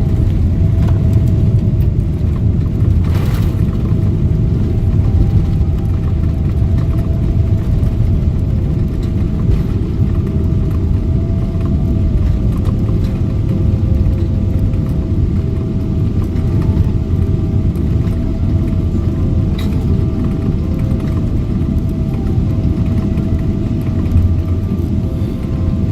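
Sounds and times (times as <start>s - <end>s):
airplane cabin engine rumble: 0.0s - 25.9s
faint steady whine: 0.0s - 25.9s.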